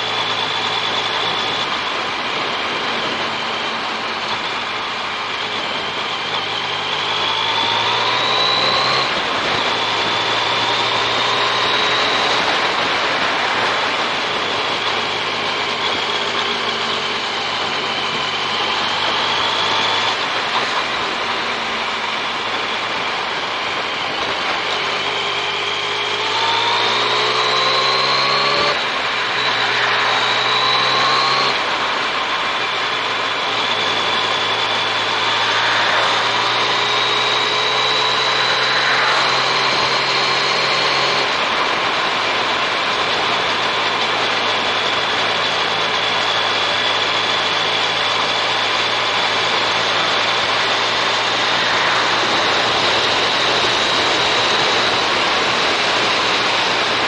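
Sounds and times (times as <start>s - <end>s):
motorcycle engine accelerating: 0.0s - 57.0s
wind rushing over camera: 8.2s - 57.0s.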